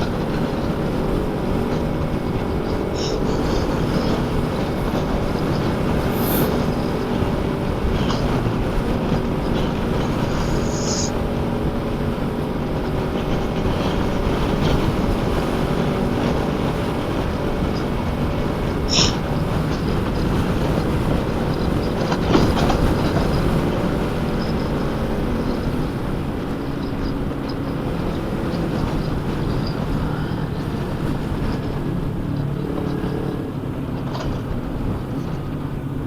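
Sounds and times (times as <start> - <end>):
motorcycle engine cruising: 0.0 - 36.0
wind rush on microphone: 0.0 - 36.0.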